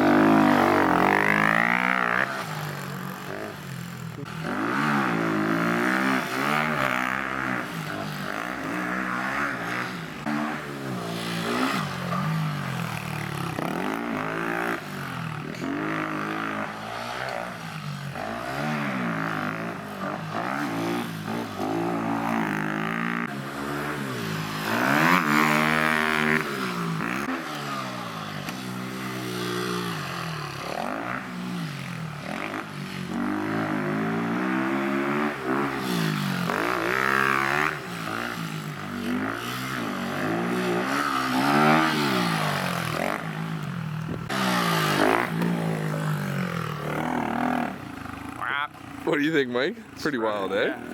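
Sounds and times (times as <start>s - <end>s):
vehicle engine revving: 0.0s - 48.4s.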